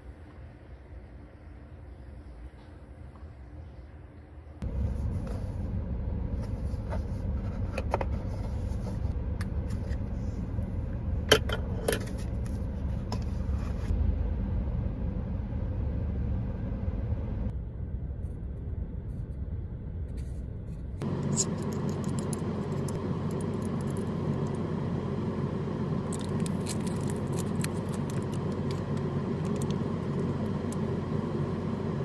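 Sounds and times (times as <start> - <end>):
car driving rumble inside cabin: 4.6 - 32.0.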